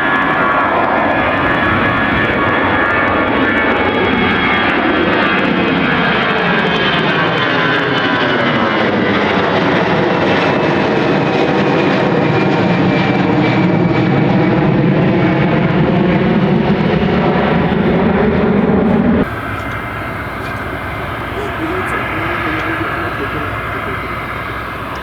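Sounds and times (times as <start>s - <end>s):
airliner engines whining: 0.0s - 25.0s
quieter aircraft engine: 0.0s - 25.0s.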